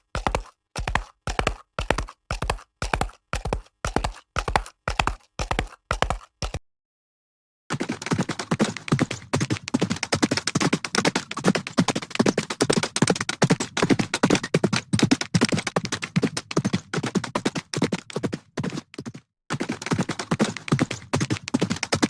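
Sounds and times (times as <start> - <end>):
horse hooves galloping: 0.2 - 6.6, 7.7 - 22.0.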